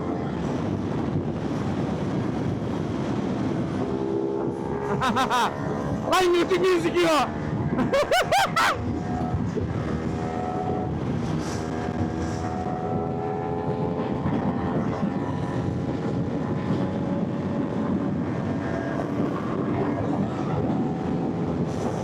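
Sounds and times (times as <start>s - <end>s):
wind and road rumble: 0.0s - 22.0s
motorcycle engine cruising: 0.4s - 6.1s, 8.6s - 22.0s.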